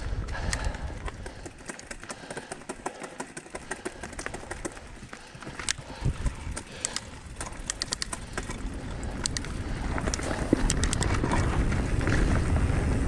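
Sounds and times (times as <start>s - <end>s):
bike clicking and rattling: 0.0s - 13.0s
bike tyres rolling over dirt: 0.0s - 13.0s.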